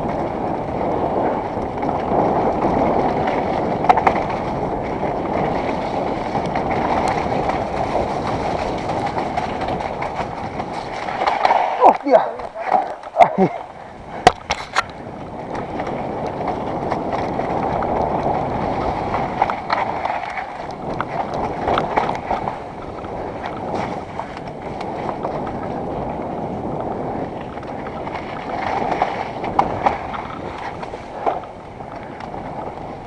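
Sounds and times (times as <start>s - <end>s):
bike knocks and rattles: 0.0s - 33.0s
bike tyres rolling on dirt: 0.0s - 33.0s
wind rushing over microphone: 0.0s - 33.0s.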